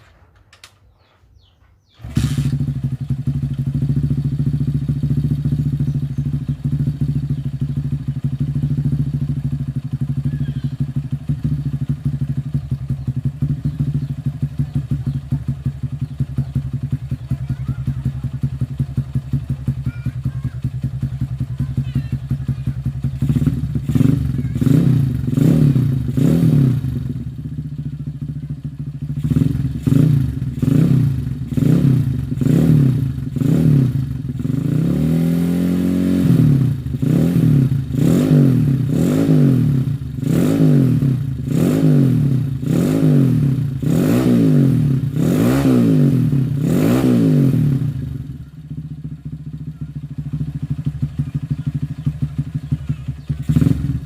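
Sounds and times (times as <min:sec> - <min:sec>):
motorcycle engine revving: 0:01.9 - 0:54.0.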